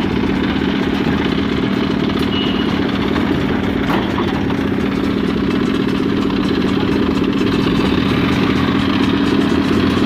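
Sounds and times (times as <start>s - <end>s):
construction machine engine idling: 0.0s - 10.0s.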